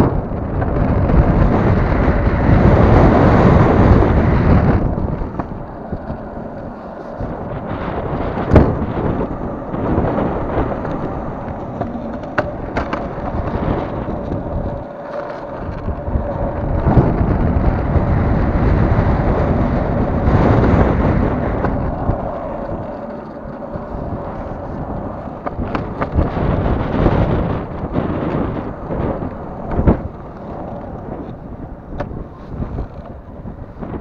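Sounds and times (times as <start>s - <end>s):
wheels rolling over asphalt: 0.0s - 34.0s
wind buffeting microphone: 0.0s - 34.0s.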